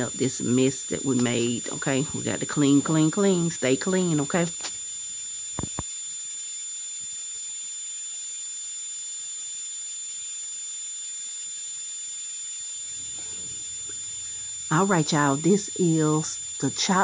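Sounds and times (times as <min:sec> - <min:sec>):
high-pitched electronic whine: 0:00.0 - 0:17.0.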